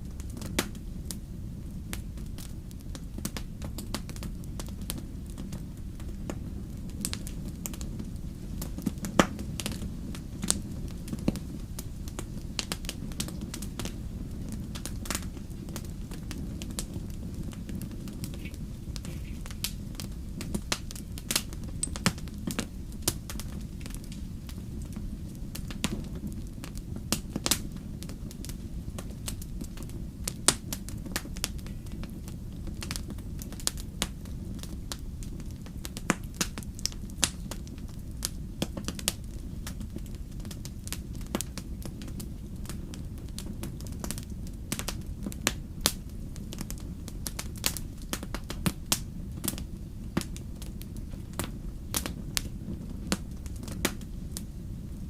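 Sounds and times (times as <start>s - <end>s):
campfire crackling and popping: 0.0s - 55.0s
steady low rumble: 0.0s - 55.0s.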